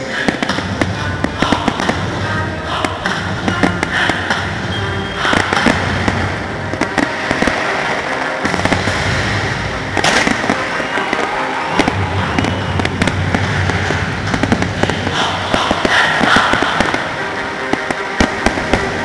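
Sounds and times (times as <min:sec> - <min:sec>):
continuous rumbling: 0:00.0 - 0:19.0
fireworks cracking and popping: 0:00.0 - 0:19.0.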